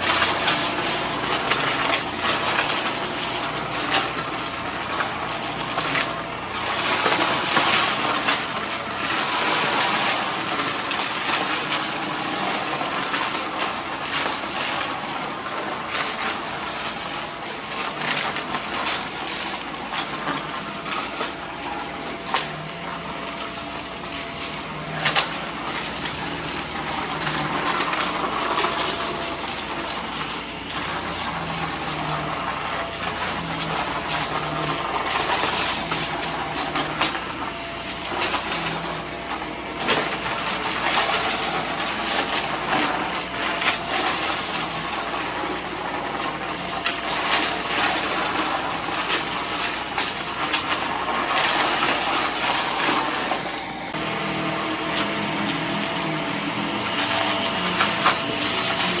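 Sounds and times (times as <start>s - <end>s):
debris rattling through nozzle: 0.0s - 59.0s
vacuum cleaner running: 0.0s - 59.0s.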